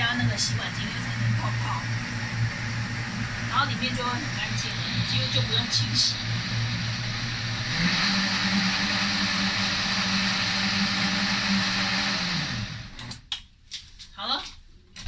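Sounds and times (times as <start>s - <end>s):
blender motor whirring: 0.0s - 13.2s.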